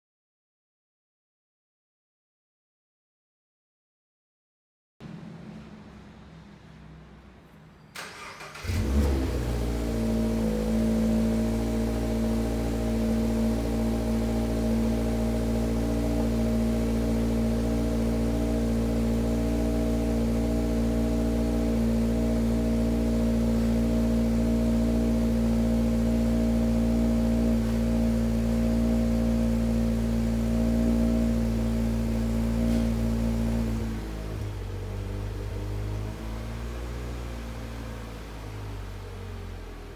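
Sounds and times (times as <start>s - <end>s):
car engine starting and idling: 5.0s - 39.9s.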